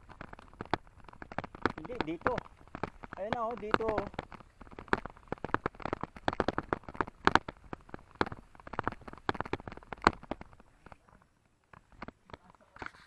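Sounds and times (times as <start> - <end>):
mountain bike rattling over trail: 0.0 - 11.1.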